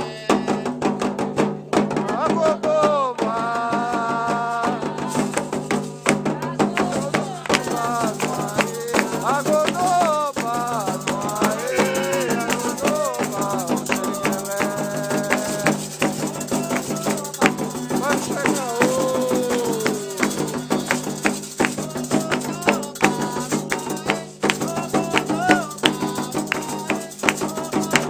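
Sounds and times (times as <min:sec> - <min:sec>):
hand drums: 0:00.0 - 0:28.0
voices singing: 0:00.0 - 0:28.0
rattle shaking: 0:03.9 - 0:28.0.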